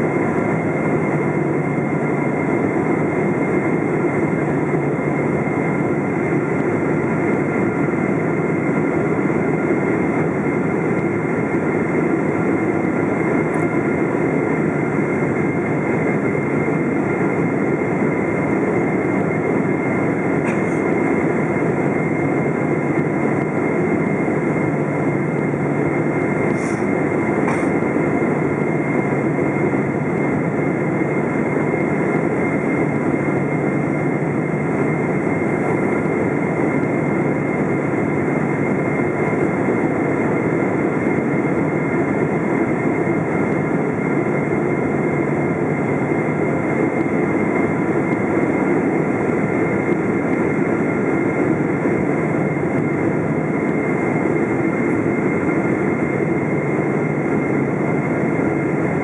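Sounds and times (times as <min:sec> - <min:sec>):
high whining engine tones: 0:00.0 - 0:59.0
rush of engine and airflow: 0:00.0 - 0:59.0.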